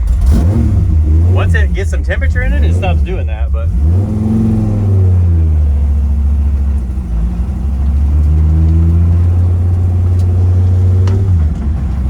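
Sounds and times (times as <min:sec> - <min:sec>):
race car engine droning: 0:00.0 - 0:12.0.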